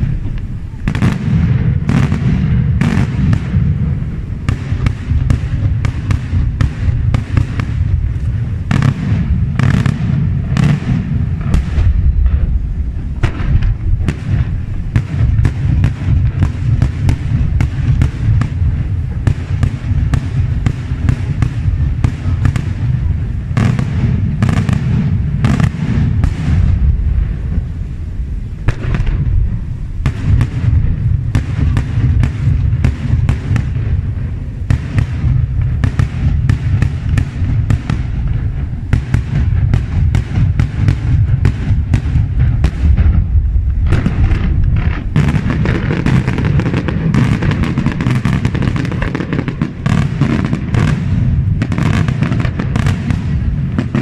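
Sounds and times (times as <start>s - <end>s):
fireworks bangs: 0.0s - 54.0s
low rumble: 0.0s - 54.0s.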